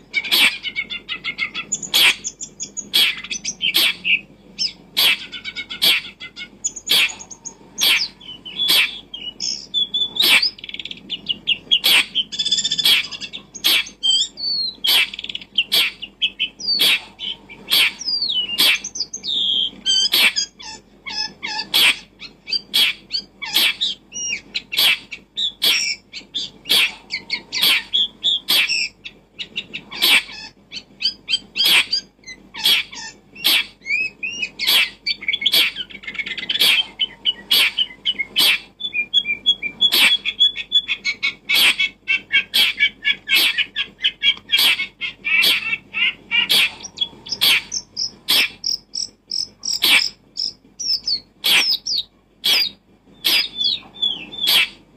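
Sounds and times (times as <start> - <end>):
birds chirping and twittering: 0.0 - 54.9.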